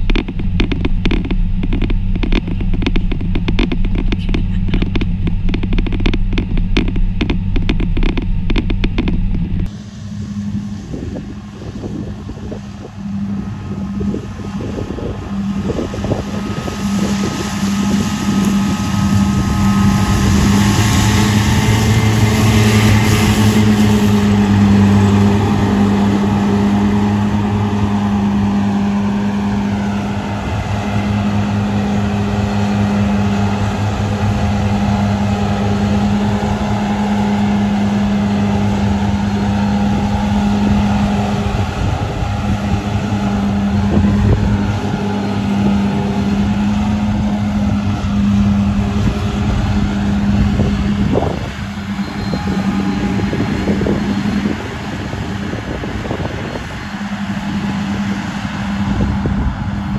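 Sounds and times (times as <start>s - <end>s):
mower engine humming: 0.0s - 59.9s.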